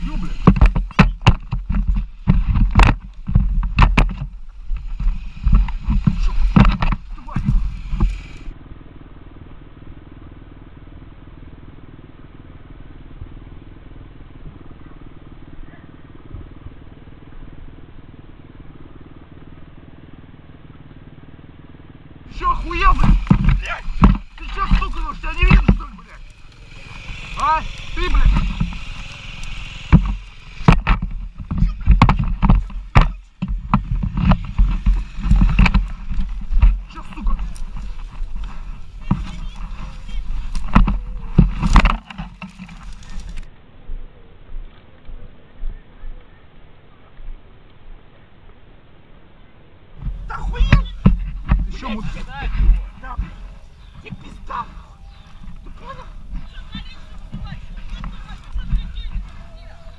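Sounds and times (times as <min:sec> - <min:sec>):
grass rustling: 0:00.0 - 0:45.2, 0:49.8 - 0:59.9
motorbike engine idling: 0:00.0 - 0:48.2, 0:50.0 - 0:59.9.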